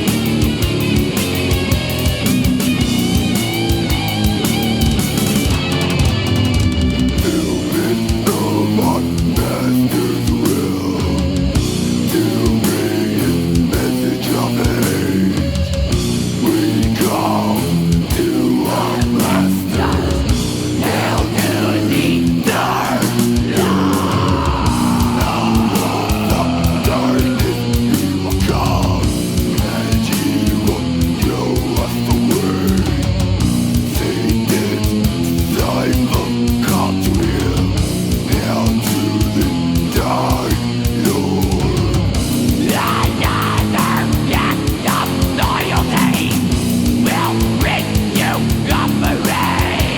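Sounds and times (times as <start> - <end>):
death metal music: 0.0 - 49.9.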